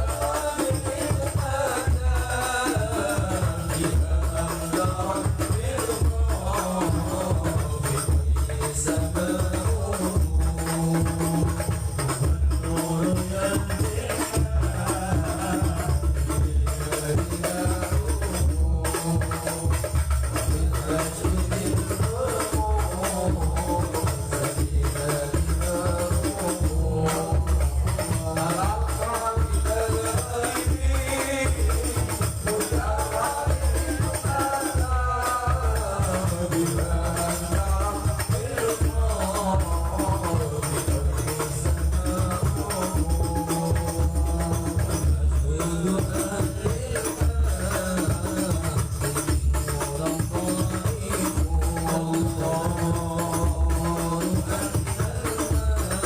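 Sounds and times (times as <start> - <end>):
frame drums beating: 0.0 - 56.0
man singing: 0.0 - 56.0.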